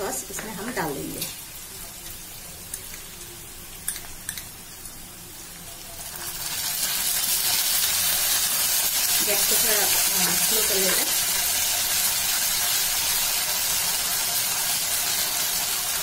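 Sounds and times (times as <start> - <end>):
sauce hissing in hot pan: 0.0 - 16.0
vegetables sizzling in oil: 0.0 - 16.0.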